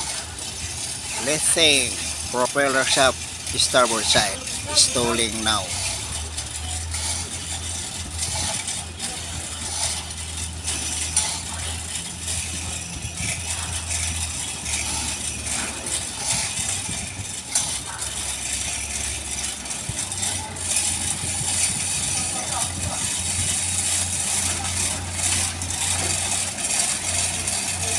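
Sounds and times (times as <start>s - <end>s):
heavy machinery humming: 0.0s - 27.9s.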